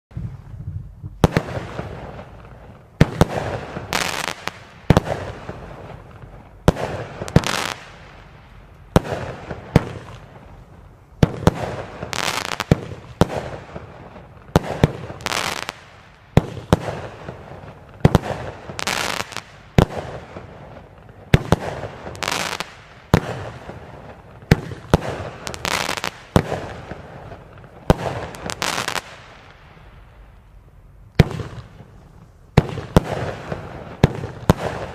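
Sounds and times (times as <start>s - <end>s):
firework crackle: 0.2s - 34.9s
firework bangs: 1.2s - 30.0s, 31.2s - 34.9s.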